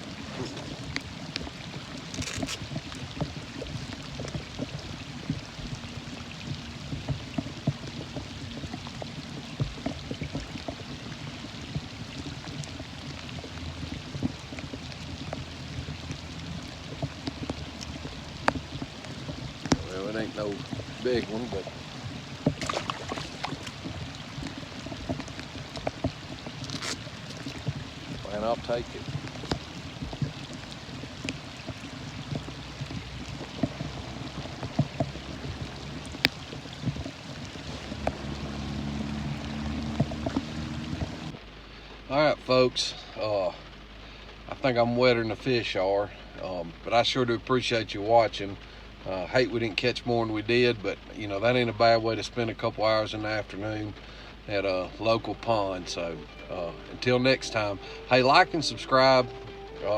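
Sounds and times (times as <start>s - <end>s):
drops ticking: 0.0s - 42.0s, 45.5s - 59.9s
steady rain falling: 0.0s - 59.9s.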